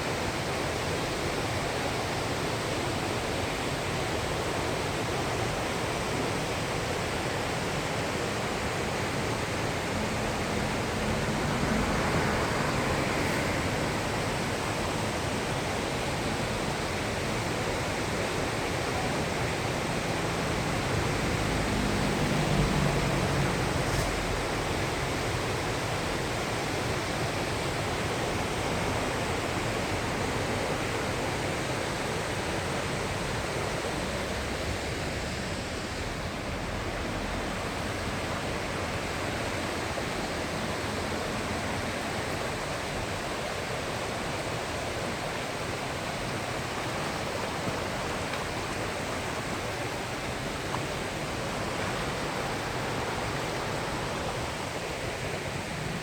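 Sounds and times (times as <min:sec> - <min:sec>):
stream rushing over rapids: 0:00.0 - 0:56.0.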